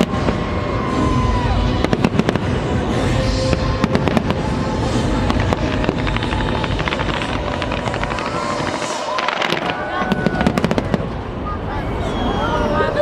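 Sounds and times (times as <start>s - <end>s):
fireworks bangs and crackles: 0.0s - 12.3s.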